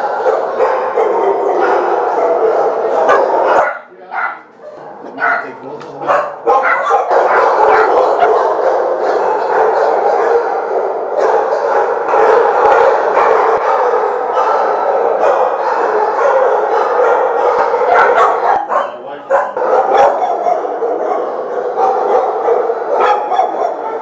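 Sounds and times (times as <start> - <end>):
many dogs barking and yipping: 0.0 - 24.0.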